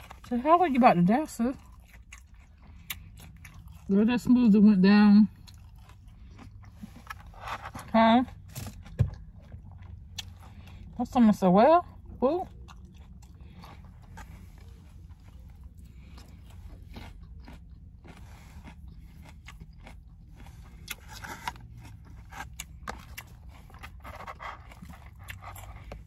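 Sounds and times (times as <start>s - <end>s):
person chewing food: 0.0s - 4.4s, 5.2s - 11.0s, 11.9s - 26.0s
faint low hum: 0.0s - 26.0s.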